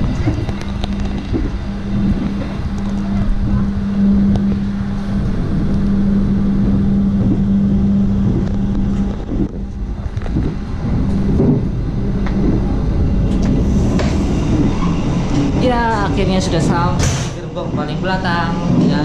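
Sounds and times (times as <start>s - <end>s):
constant hum: 0.0s - 19.0s
train coach low rumble: 0.0s - 19.0s.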